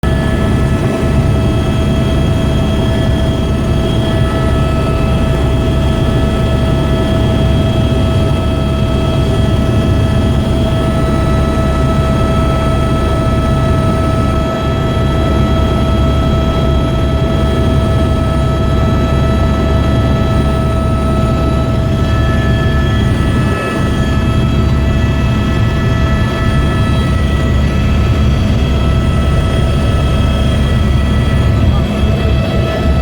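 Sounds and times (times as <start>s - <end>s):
helicopter engine and rotor rumble: 0.0s - 33.0s
helicopter high whine: 0.0s - 33.0s.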